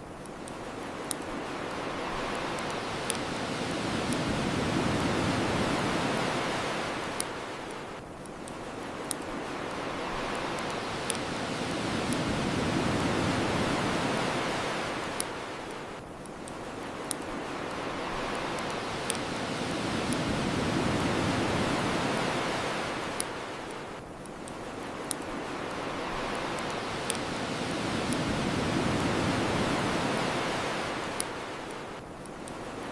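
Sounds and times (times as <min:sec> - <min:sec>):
ocean waves washing on shore: 0:00.0 - 0:32.9
bonfire crackling pops: 0:00.2 - 0:22.3, 0:23.0 - 0:32.9.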